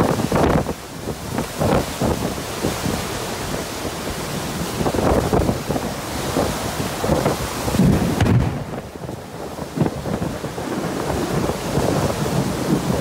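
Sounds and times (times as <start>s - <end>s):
heavy rain: 0.0s - 13.0s
storm wind gusting: 0.0s - 13.0s
wind rumbling on microphone: 0.0s - 13.0s.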